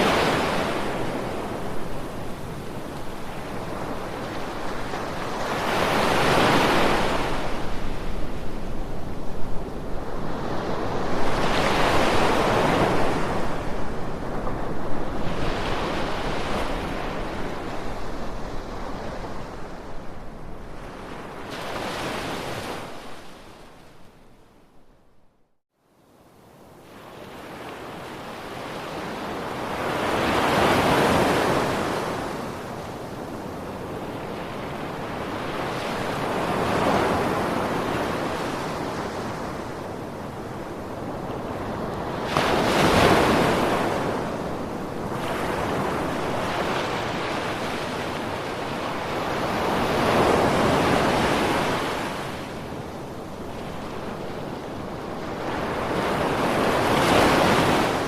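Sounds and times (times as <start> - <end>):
waves breaking on shore: 0.0 - 24.2, 26.8 - 58.0.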